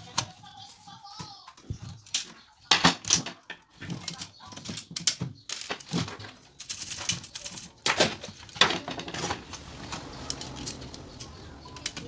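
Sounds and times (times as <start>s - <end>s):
plastic parts clicking and clattering: 0.0s - 12.0s.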